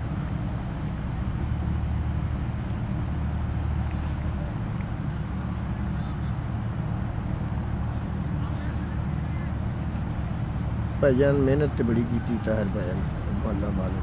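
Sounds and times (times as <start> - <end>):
low mechanical rumble with hum: 0.0 - 14.0.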